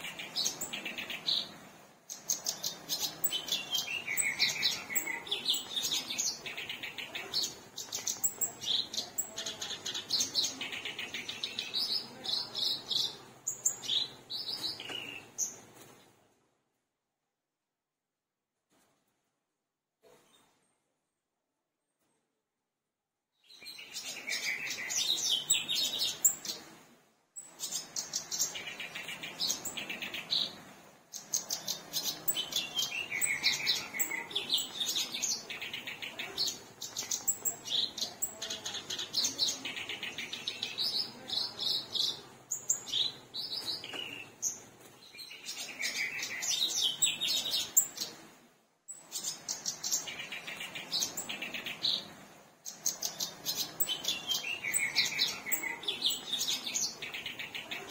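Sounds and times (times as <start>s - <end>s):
warbler chattering song: 0.0s - 15.6s, 23.4s - 26.8s, 27.4s - 48.3s, 48.9s - 57.9s.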